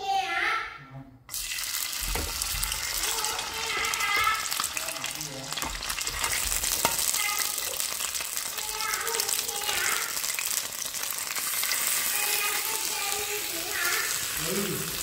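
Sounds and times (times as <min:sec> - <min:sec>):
chicken wings sizzling in oil: 0:01.3 - 0:15.0.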